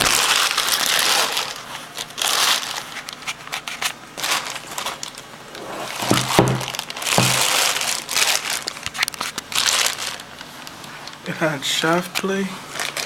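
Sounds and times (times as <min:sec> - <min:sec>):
rustling and crinkling: 0:00.0 - 0:11.3, 0:11.9 - 0:13.0.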